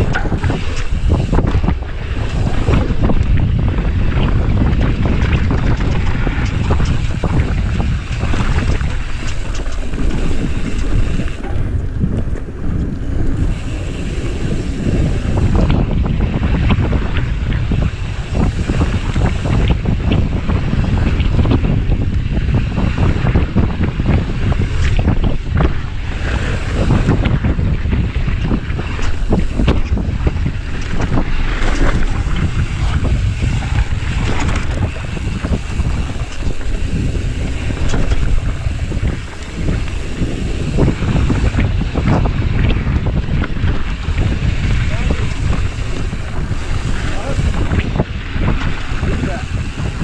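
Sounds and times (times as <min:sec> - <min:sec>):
bike rattling over bumps: 0:00.0 - 0:50.0
wind buffeting microphone: 0:00.0 - 0:50.0.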